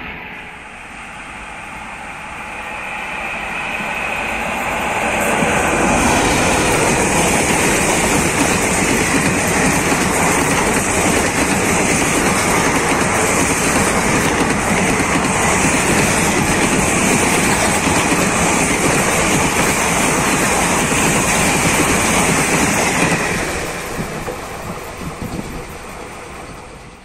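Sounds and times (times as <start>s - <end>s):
train wheels rattling on rails: 0.0s - 27.0s.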